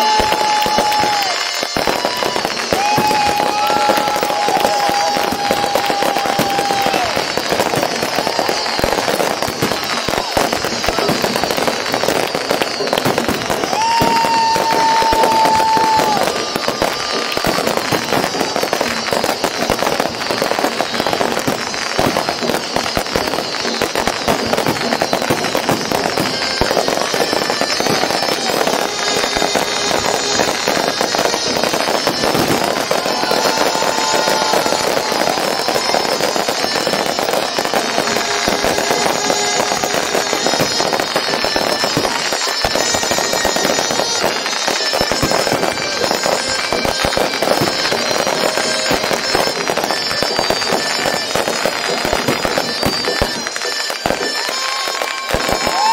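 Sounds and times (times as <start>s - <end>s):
firework whistling: 0.0s - 55.9s
fireworks crackling: 0.0s - 55.9s.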